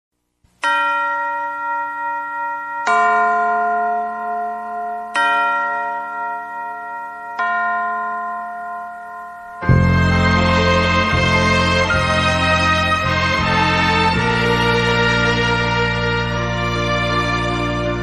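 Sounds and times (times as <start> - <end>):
bell chimes: 0.6 - 18.0.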